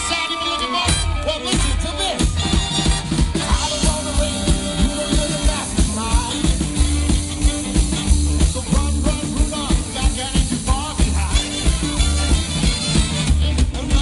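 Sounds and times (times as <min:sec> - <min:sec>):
swing band playing blues: 0:00.0 - 0:14.0.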